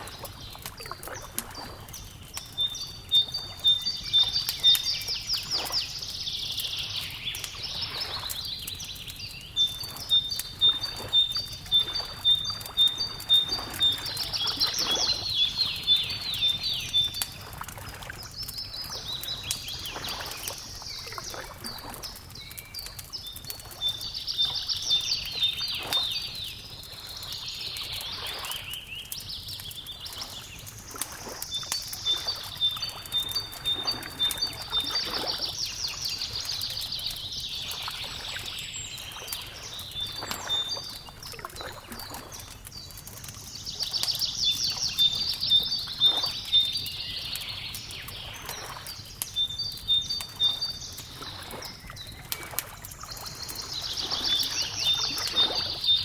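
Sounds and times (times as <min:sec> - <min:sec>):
songbird singing: 0:00.0 - 0:56.0
wood fire crackling: 0:00.0 - 0:56.0.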